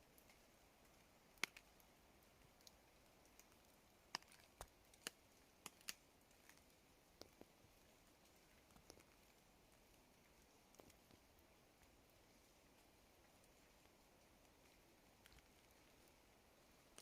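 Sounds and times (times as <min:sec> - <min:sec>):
raindrops tapping on a tarp: 0:00.0 - 0:17.0.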